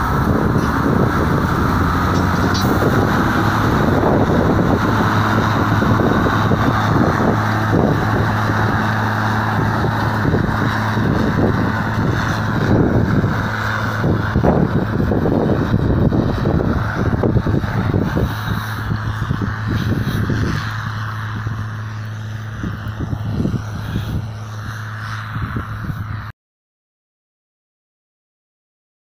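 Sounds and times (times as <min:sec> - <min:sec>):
harrow discs scraping soil: 0:00.0 - 0:26.2
diesel tractor engine under load: 0:00.0 - 0:26.3.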